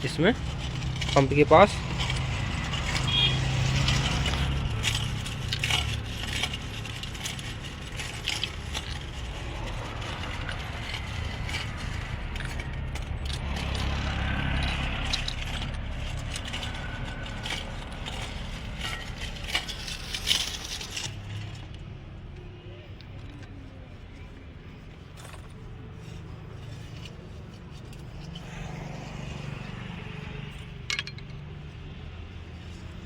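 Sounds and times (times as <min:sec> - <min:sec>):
metal tools clinking and scraping: 0:00.0 - 0:33.0.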